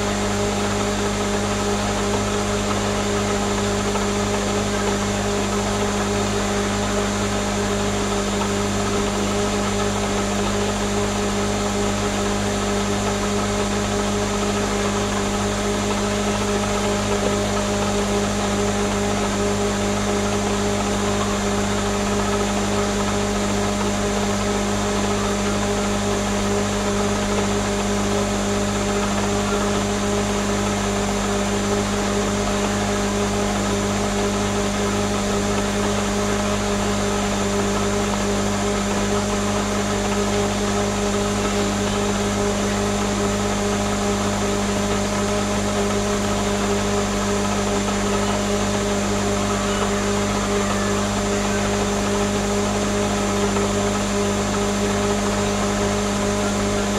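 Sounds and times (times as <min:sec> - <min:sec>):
blender motor running: 0:00.0 - 0:56.9.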